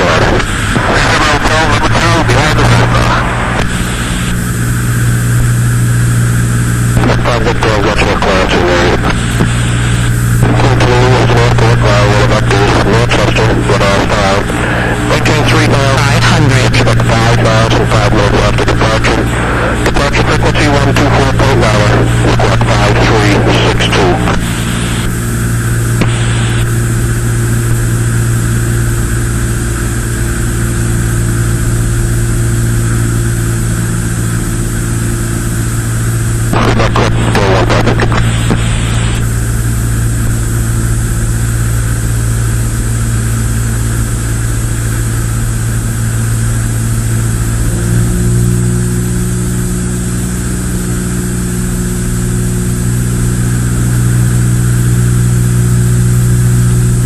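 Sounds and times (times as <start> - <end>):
propeller plane engine droning: 0.0 - 57.0
steady high whine: 0.0 - 57.0.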